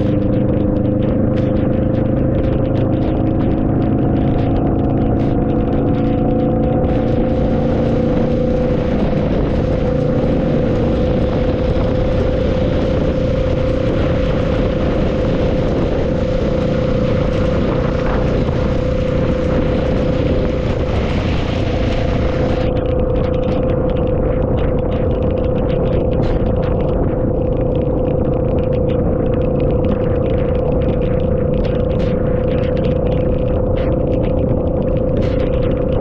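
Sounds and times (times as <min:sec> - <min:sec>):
low tones: 0:00.0 - 0:36.0
vehicle engine droning: 0:00.0 - 0:36.0
wind and road noise: 0:00.0 - 0:36.0.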